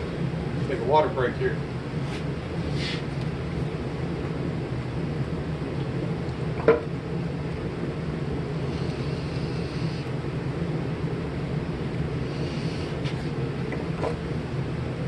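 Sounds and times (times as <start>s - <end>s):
forge roaring: 0.0s - 15.0s.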